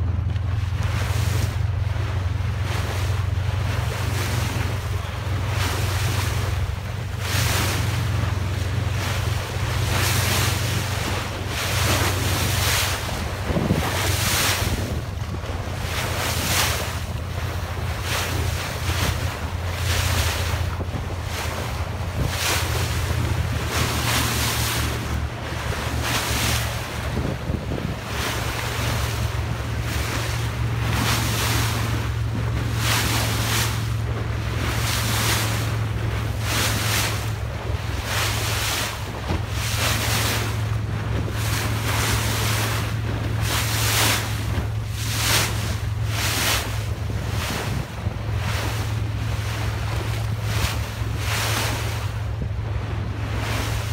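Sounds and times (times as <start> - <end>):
bow wave rushing and splashing: 0.0 - 53.9
steady low hum: 0.0 - 53.9
wind buffeting microphone: 0.0 - 53.9.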